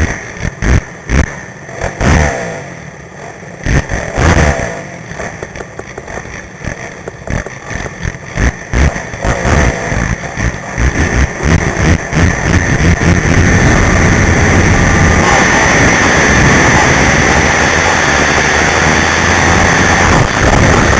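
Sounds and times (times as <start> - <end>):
quad engine revving: 0.0 - 20.9.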